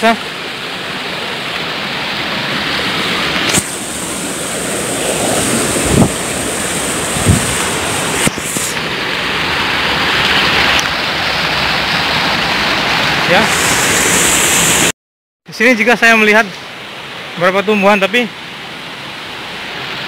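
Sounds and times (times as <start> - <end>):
stream rushing over stones: 0.0 - 14.9, 15.6 - 20.0.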